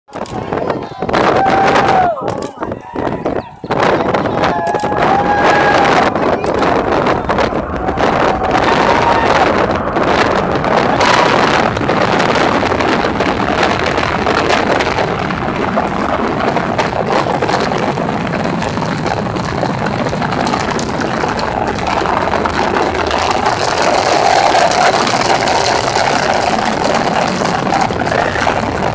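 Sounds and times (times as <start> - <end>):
distant rocket roar with crackle: 0.1 - 28.9.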